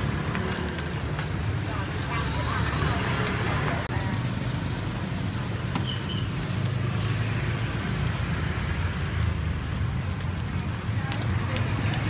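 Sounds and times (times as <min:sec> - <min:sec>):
hot oil sizzling: 0:00.0 - 0:12.0
street traffic rumble: 0:00.0 - 0:12.0.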